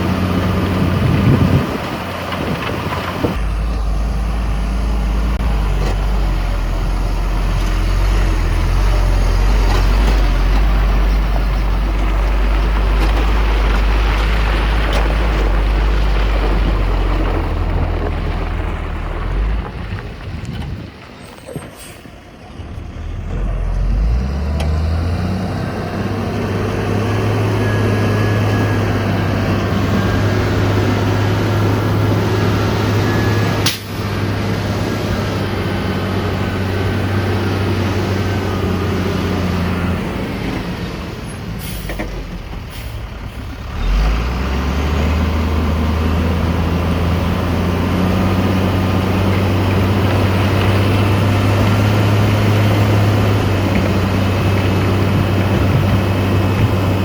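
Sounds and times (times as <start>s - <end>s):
heavy diesel engine revving: 0.0s - 20.2s, 22.3s - 57.0s.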